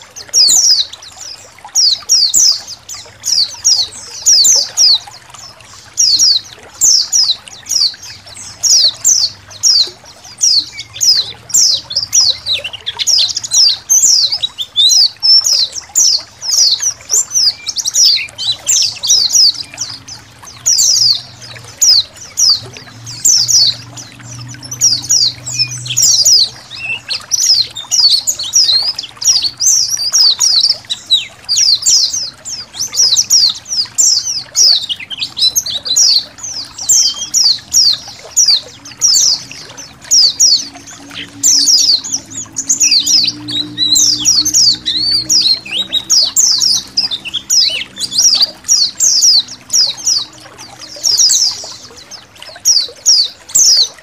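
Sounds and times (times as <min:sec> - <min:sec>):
flock of birds twittering: 0:00.0 - 0:54.0
water trickling: 0:00.0 - 0:54.0.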